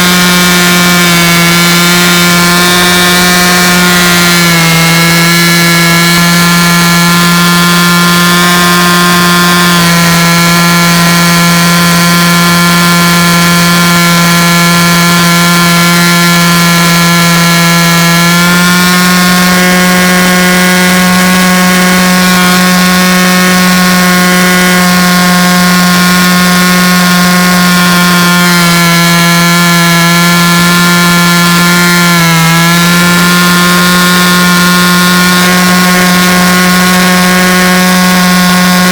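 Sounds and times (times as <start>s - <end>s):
loud machine drone: 0.0s - 38.9s.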